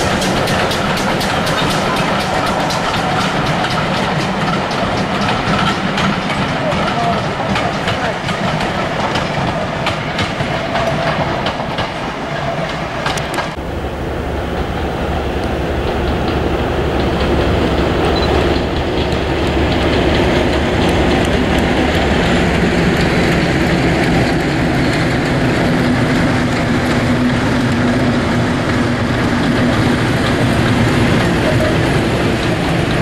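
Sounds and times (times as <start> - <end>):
diesel locomotive engine running: 0.0 - 33.0
train wheels clicking over rail joints: 0.0 - 33.0.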